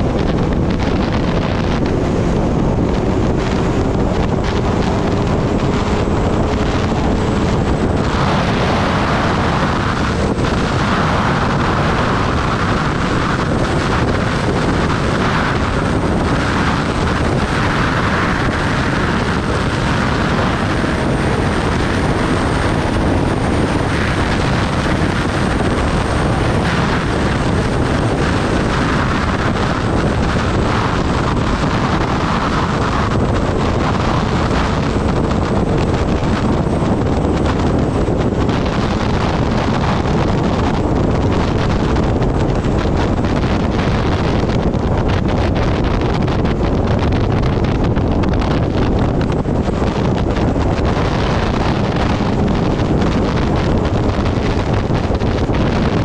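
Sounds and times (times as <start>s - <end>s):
motorcycle engine running: 0.0s - 56.0s
wind rushing on microphone: 0.0s - 56.0s.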